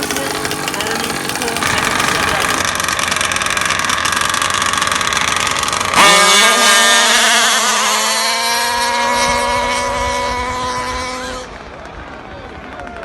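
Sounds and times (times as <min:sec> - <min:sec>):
two-stroke engine revving: 0:00.0 - 0:12.2.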